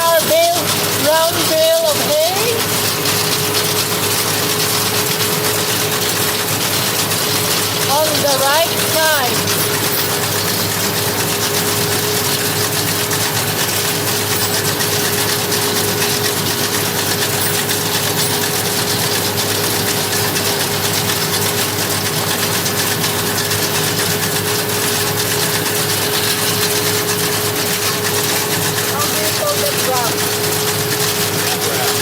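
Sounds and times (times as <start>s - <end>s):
constant machine whine: 0.0s - 32.0s
hay baler machinery: 0.0s - 32.0s
tractor engine running: 0.0s - 32.0s.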